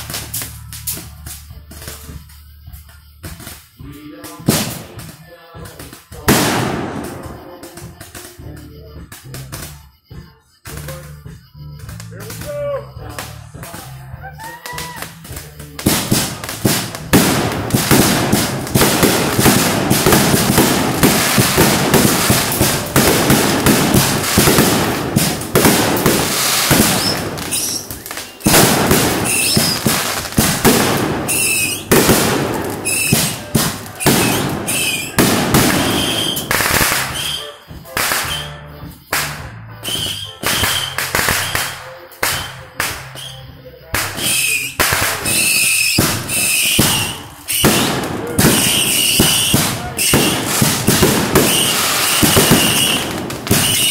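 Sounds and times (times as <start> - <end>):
fireworks bangs and crackling: 0.0 - 53.9
fireworks whistling: 0.0 - 53.9.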